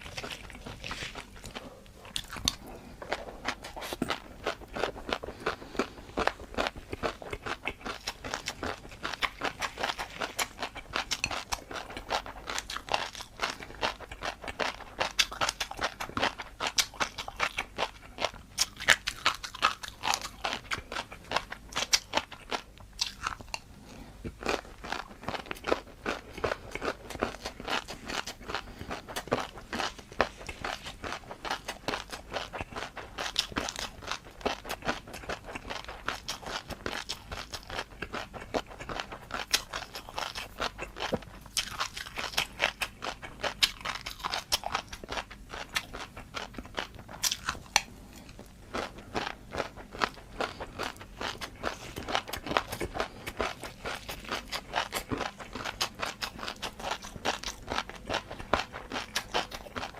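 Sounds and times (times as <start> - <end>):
crunching and chewing noodles: 0.0 - 59.9.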